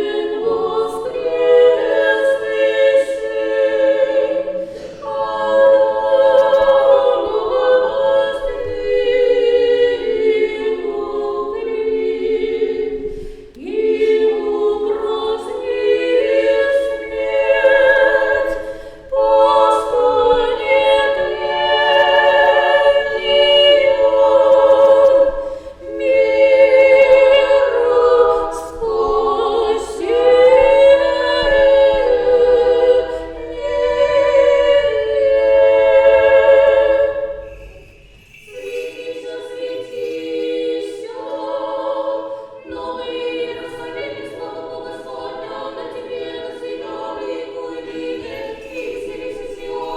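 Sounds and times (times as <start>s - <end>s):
choir singing chant: 0.0s - 49.9s.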